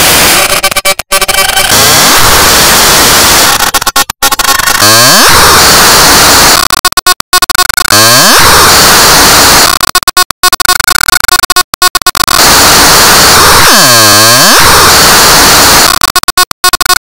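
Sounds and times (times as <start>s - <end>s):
distorted buzzing noise: 0.0s - 17.0s.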